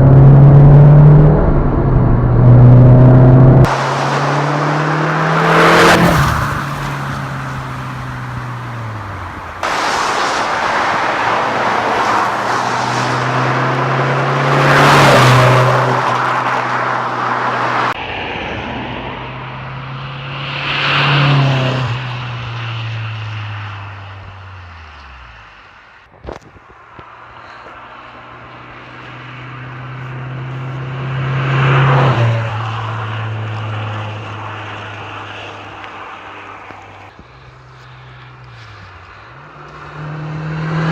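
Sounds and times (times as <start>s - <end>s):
car passing by: 2.4s - 25.7s, 27.0s - 40.9s.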